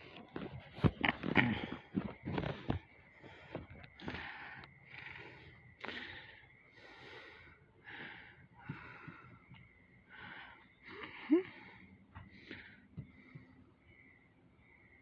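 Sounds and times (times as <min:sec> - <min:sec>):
person breathing hard: 0:01.2 - 0:15.0.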